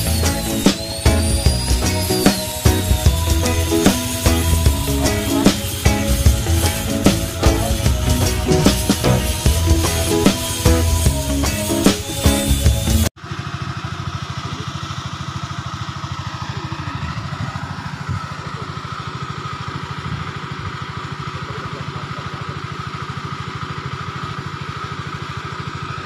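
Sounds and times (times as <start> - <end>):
small engine idling: 0.0 - 26.0.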